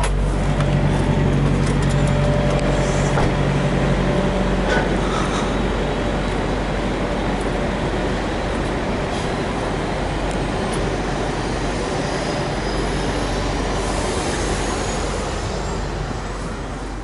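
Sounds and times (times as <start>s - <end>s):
road noise: 0.0s - 17.0s
truck engine rumbling: 0.0s - 17.0s.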